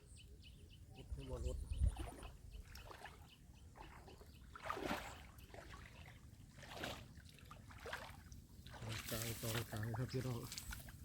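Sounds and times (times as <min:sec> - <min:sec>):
water sloshing and splashing: 0:01.8 - 0:11.0.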